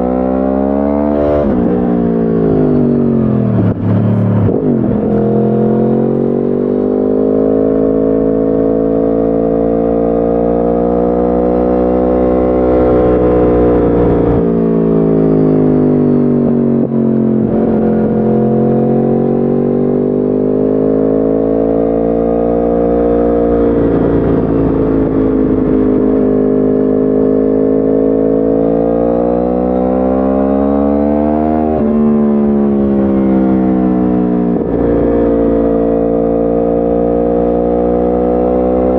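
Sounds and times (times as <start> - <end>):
motorcycle engine running: 1.1 - 10.2, 11.3 - 38.9.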